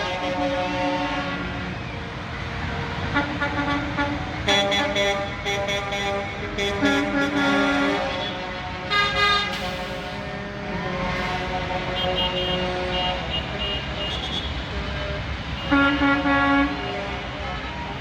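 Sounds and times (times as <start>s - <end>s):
truck horns blasting: 0.0s - 17.6s
truck engines rumbling past: 0.0s - 18.0s.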